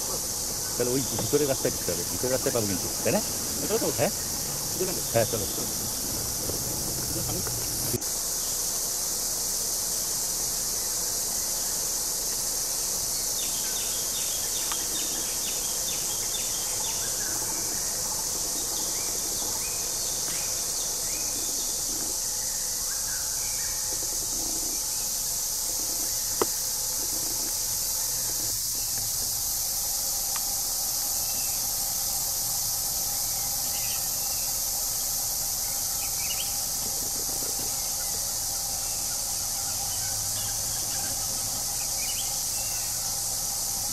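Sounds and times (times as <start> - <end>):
insects chorus: 0.0 - 43.9.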